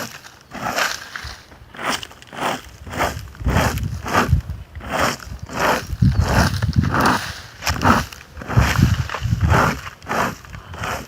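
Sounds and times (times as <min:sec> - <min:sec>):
rake scraping across lawn: 0:00.0 - 0:11.0.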